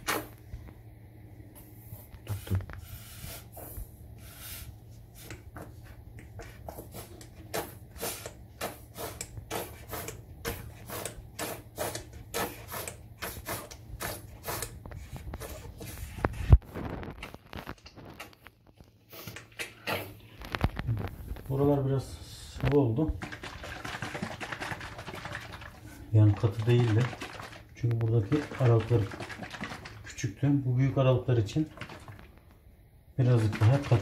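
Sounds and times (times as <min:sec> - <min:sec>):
grout bottle squeezing and scraping: 0:02.0 - 0:21.6, 0:22.6 - 0:30.3, 0:31.4 - 0:32.5, 0:33.2 - 0:34.0.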